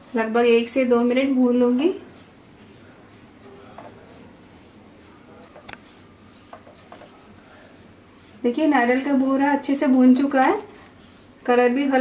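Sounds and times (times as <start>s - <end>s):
spatula scraping dry coconut: 0.0s - 11.9s.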